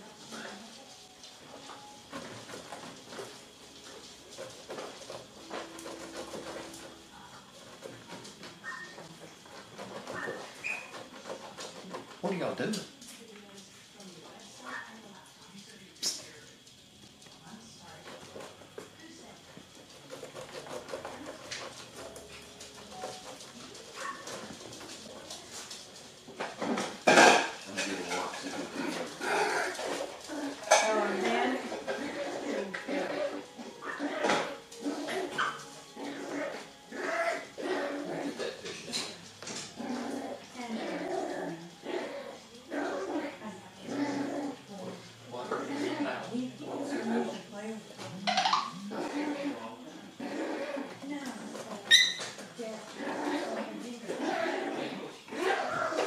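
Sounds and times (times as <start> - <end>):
puppies rustling and scratching: 0.0 - 56.0.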